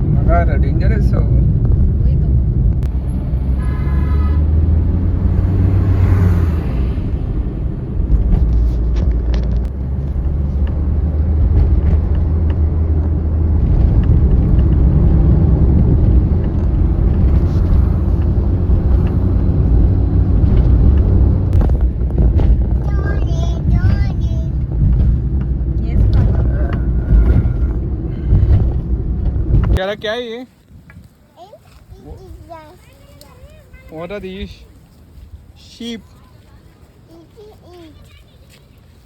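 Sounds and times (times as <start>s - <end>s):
vehicle engine and road rumble: 0.0s - 39.0s.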